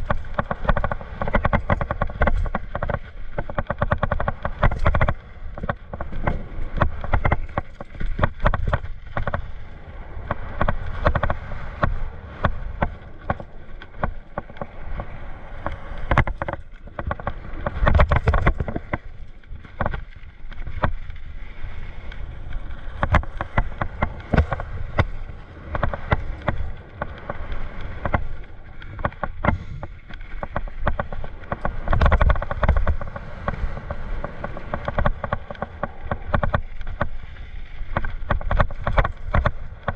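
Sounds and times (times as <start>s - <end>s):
bike rattling over bumps: 0.0s - 39.9s.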